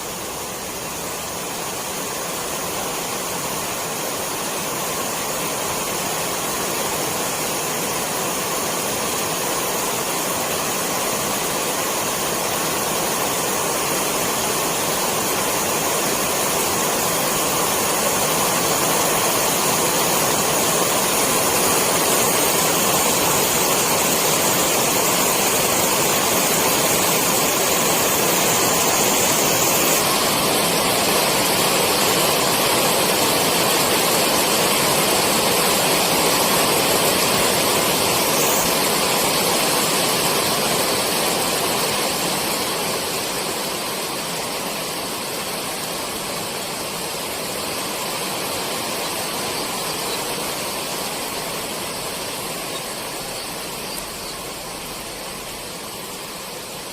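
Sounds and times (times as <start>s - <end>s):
steady rainfall: 0.0s - 56.9s.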